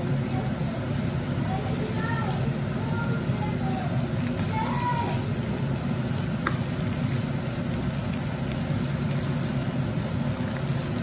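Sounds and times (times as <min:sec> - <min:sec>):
onions sizzling in a wok: 0:00.0 - 0:11.0.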